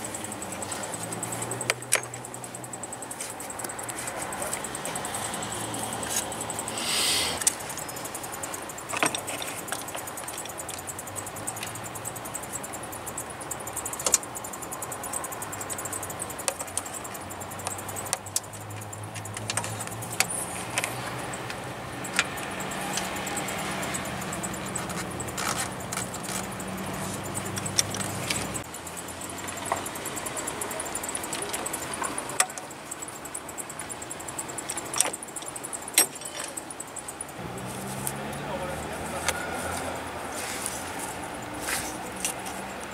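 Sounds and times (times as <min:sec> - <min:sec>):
tools and metal parts clinking: 0:00.0 - 0:06.8, 0:07.4 - 0:38.0.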